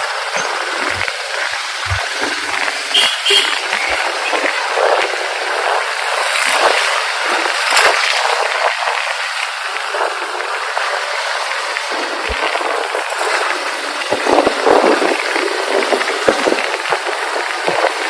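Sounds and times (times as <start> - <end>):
road noise: 0.0 - 18.0
wind rushing on microphone: 0.0 - 18.0.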